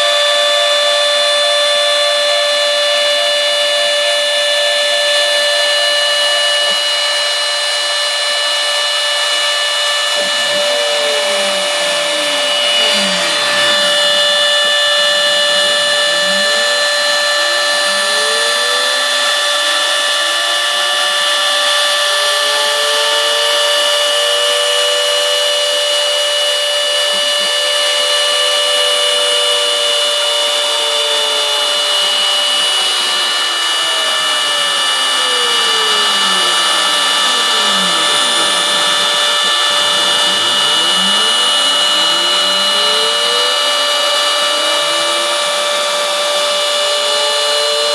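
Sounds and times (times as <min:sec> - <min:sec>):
machine axes whining: 0:00.0 - 0:47.9
router spindle whining: 0:00.0 - 0:47.9.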